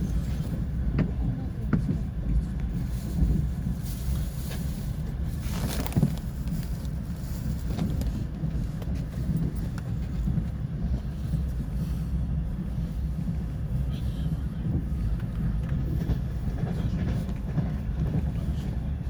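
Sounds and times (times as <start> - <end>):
train rumbling at speed: 0.0 - 19.0.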